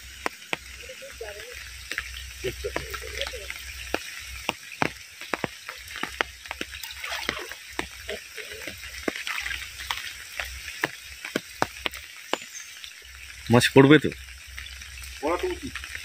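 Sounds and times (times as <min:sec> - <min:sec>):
large raindrops tapping: 0:00.0 - 0:16.0
rain hiss: 0:00.0 - 0:16.0.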